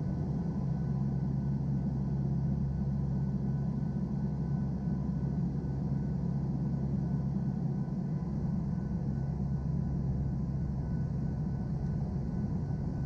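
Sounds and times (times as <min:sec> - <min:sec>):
turboprop aircraft engines droning: 0:00.0 - 0:13.0.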